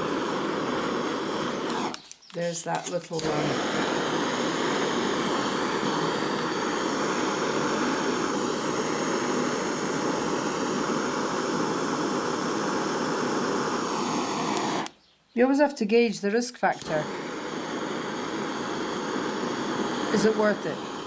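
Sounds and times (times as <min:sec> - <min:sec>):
gas soldering torch hissing: 0:00.0 - 0:15.0, 0:16.6 - 0:21.0.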